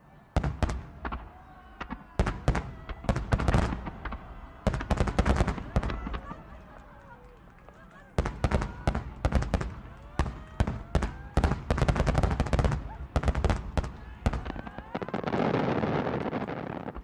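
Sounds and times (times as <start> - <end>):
fireworks bangs and crackle: 0.3 - 17.0.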